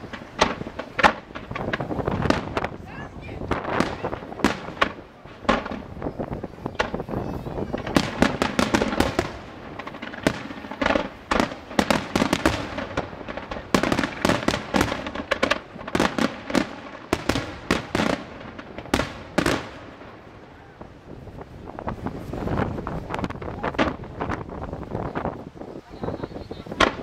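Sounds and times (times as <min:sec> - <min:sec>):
fireworks bursting: 0:00.0 - 0:27.0
fireworks crackle: 0:00.0 - 0:27.0.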